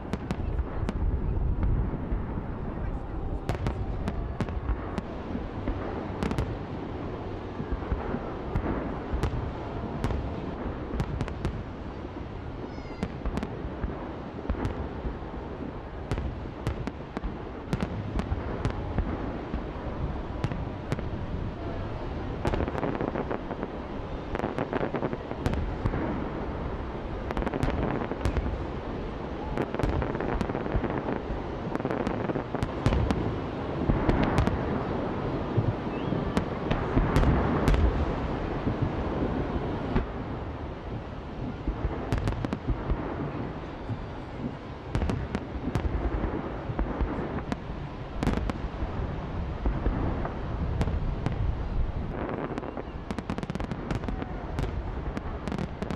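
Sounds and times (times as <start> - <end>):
fireworks bursting: 0.0 - 55.9
fireworks cracking and crackling: 0.0 - 55.9.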